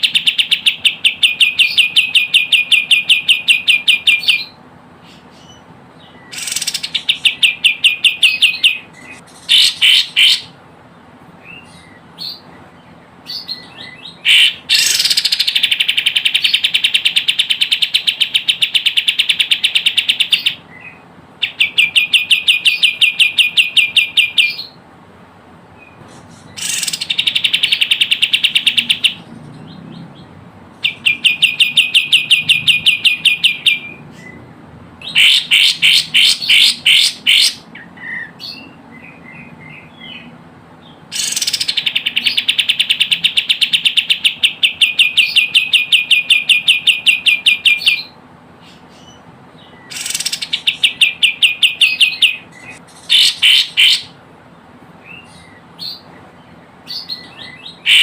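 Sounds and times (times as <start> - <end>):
bird trilling: 0.0 - 10.6, 11.4 - 24.8, 25.8 - 54.2, 55.0 - 58.0.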